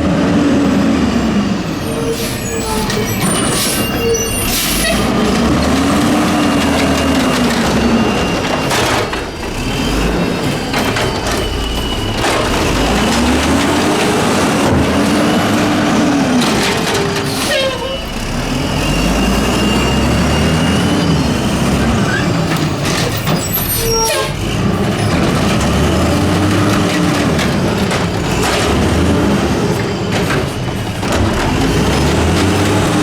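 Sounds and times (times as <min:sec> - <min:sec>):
garbage truck diesel engine: 0:00.0 - 0:33.0.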